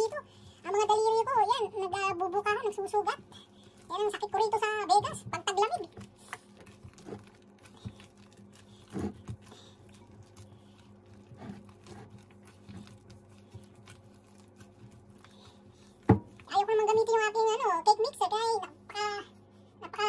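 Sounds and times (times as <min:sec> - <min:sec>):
plastic glove crinkling: 0:00.0 - 0:19.4
faint steady hum: 0:00.0 - 0:20.0
sticky dough squishing: 0:00.0 - 0:20.0.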